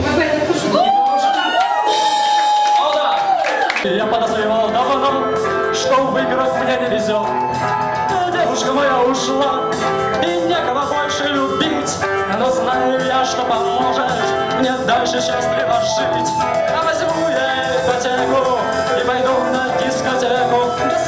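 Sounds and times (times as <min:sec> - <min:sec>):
guitar: 0:00.0 - 0:21.0
person singing: 0:03.8 - 0:21.0.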